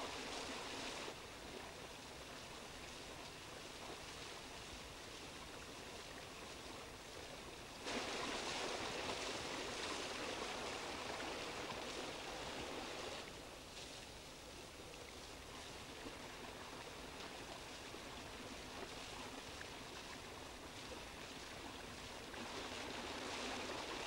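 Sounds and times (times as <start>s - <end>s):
water rushing at water wheel: 0.0s - 24.0s.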